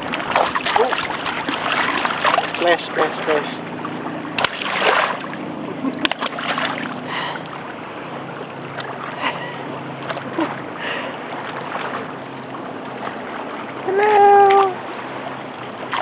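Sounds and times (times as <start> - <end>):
seawater sloshing and splashing: 0.0 - 16.0
surf washing: 0.0 - 16.0.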